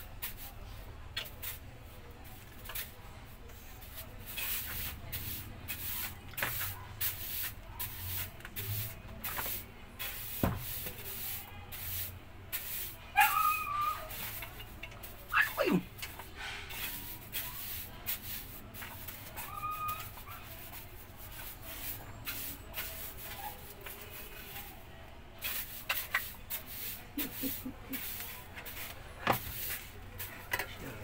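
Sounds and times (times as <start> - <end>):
broom scraping on concrete: 0.1 - 31.0.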